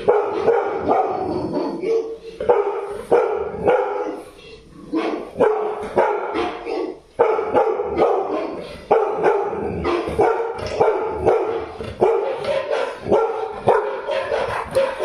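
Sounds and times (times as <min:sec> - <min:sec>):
dog barking: 0:00.0 - 0:15.0
recorded dog barks on television: 0:00.0 - 0:15.0.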